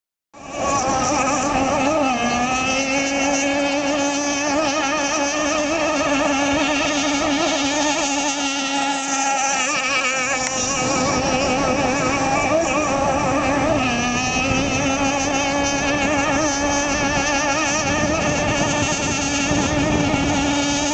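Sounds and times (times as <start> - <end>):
two-stroke engine buzzing: 0.4 - 20.9.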